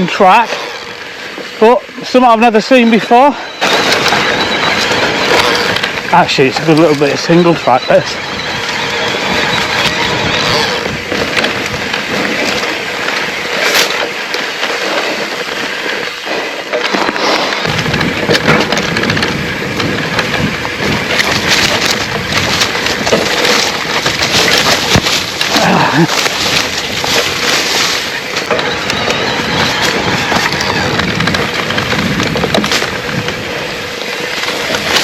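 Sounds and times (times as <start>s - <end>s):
bike rattling over bumps: 0.0s - 35.0s
bike tyre noise on trail: 0.0s - 35.0s.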